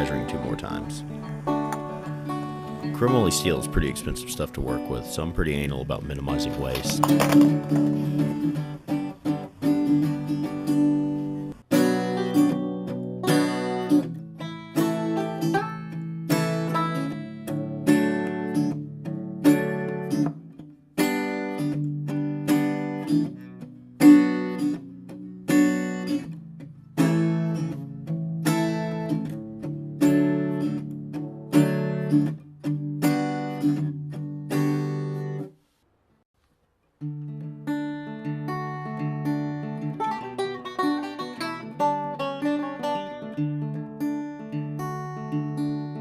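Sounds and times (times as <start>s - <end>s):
acoustic guitar strumming chords: 0.0s - 35.5s, 37.0s - 46.0s.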